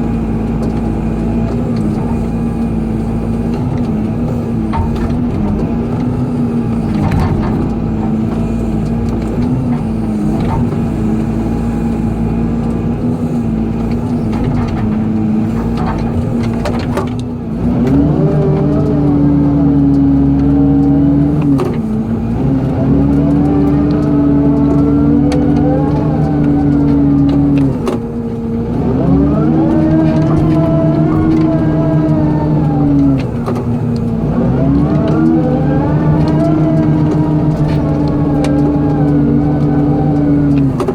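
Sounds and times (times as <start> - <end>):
excavator engine under hydraulic load: 0.0 - 40.9.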